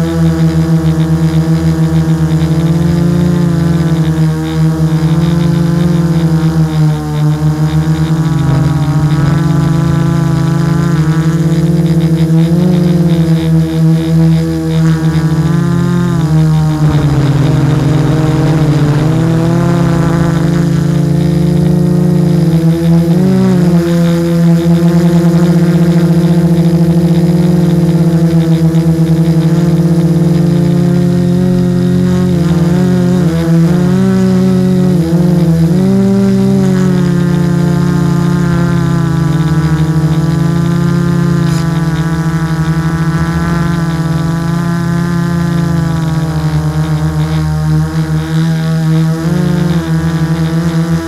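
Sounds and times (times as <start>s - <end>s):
drone motors humming: 0.0s - 51.0s.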